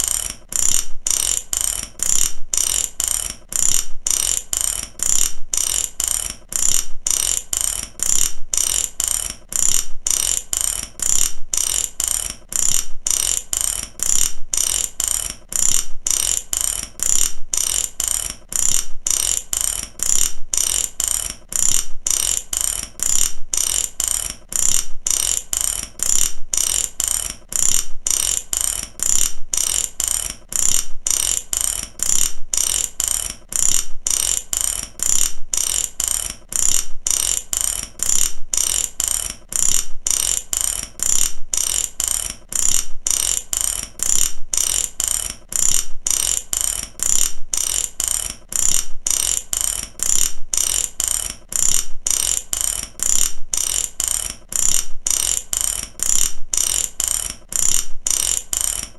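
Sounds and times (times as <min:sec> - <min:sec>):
ratchet wrench clicking: 0:00.0 - 0:58.9.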